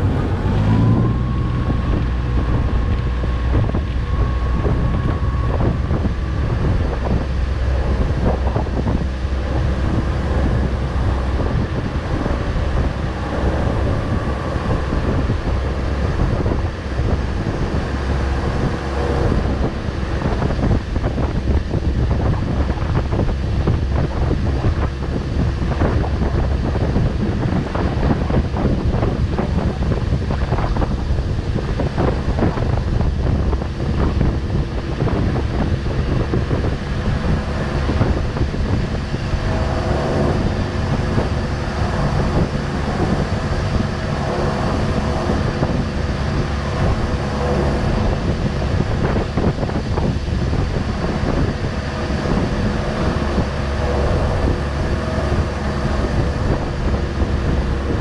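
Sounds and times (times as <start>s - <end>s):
motorboat engine running: 0.0s - 58.0s
wind buffeting microphone: 0.0s - 58.0s.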